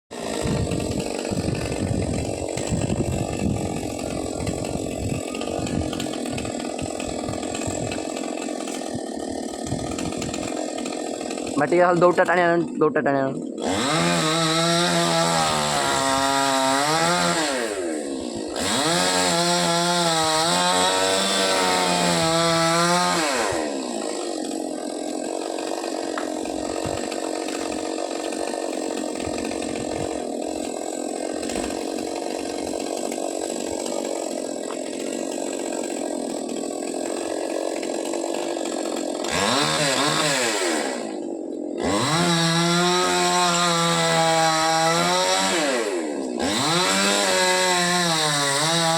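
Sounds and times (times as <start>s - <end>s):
chainsaw cutting trunk: 0.1s - 48.9s
chainsaw revving: 0.1s - 48.9s.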